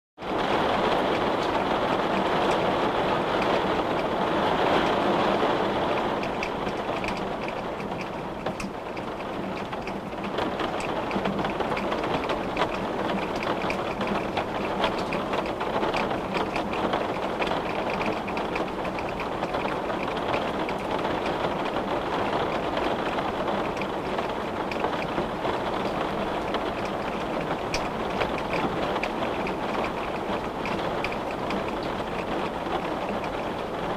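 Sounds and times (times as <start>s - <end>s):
raindrops ticking on window glass: 0.2s - 33.9s
rain hiss: 0.3s - 33.9s.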